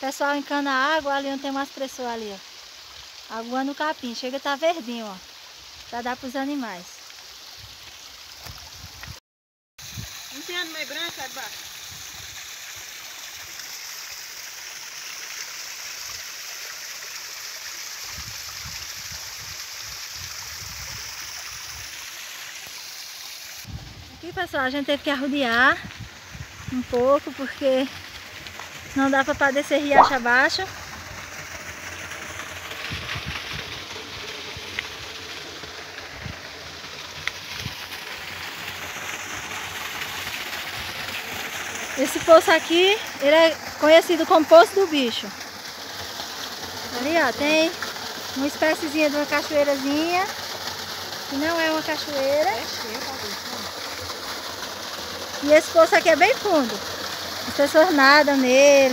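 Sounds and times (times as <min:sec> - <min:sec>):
stream rushing over rocks: 0:09.8 - 0:58.9.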